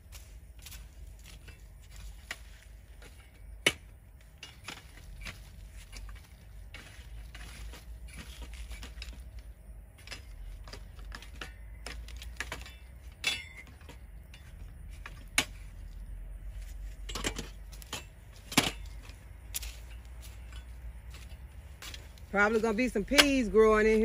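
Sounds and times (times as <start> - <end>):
metal rake scraping soil: 0.1 - 24.0.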